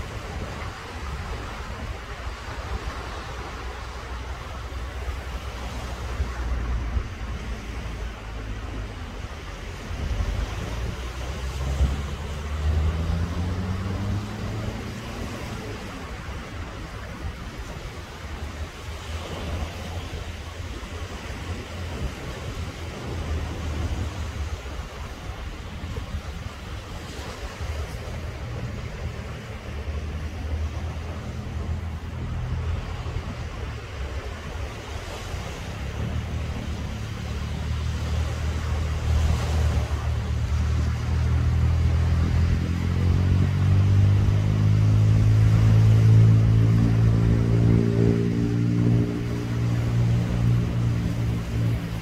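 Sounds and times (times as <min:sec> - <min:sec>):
engine droning: 0:00.0 - 0:52.0
small waves washing onto beach: 0:00.0 - 0:52.0
steady low rumble: 0:00.0 - 0:52.0
surf and wind hiss: 0:00.0 - 0:52.0.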